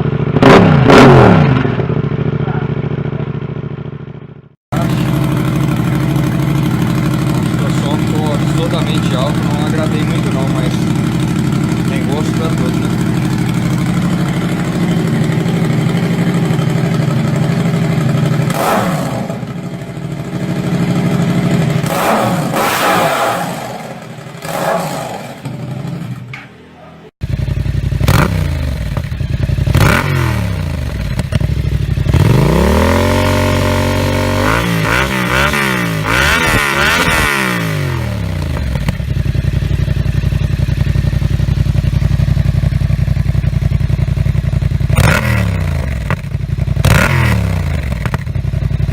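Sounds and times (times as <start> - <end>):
motorcycle engine revving: 0.0 - 26.6, 27.2 - 48.9.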